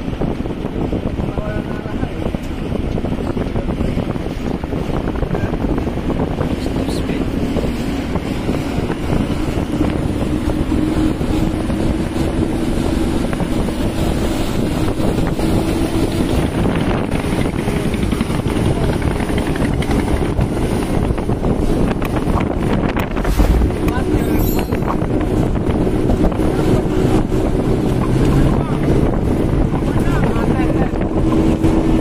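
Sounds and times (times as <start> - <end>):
outboard motors running: 0.0 - 32.0
wind rushing over microphone: 0.0 - 32.0.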